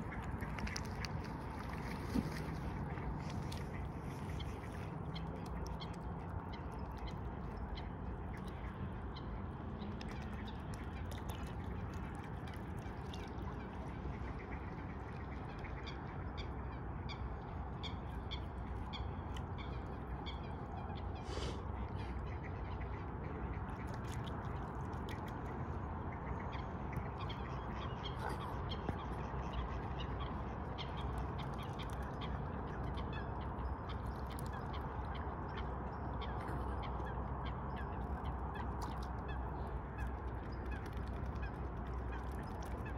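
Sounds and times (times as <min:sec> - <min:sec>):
waterfowl calls and clicks: 0:00.0 - 0:42.9
wind: 0:00.0 - 0:42.9.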